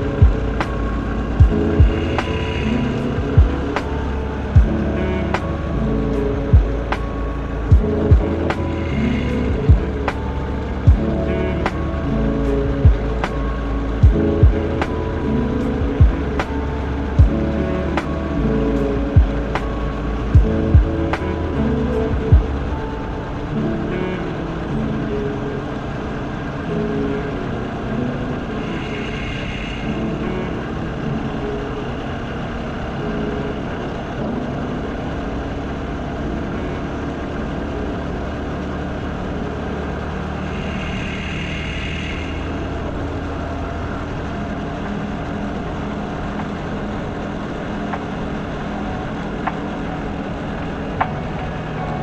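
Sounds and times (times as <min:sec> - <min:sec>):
motorcycle running: 0:00.0 - 0:52.0.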